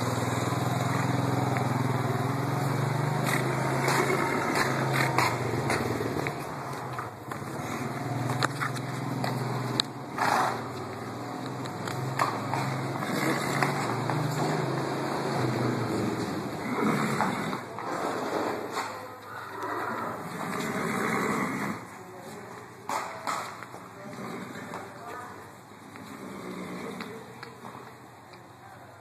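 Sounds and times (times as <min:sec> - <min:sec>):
hooves tapping on concrete: 0:00.0 - 0:29.0.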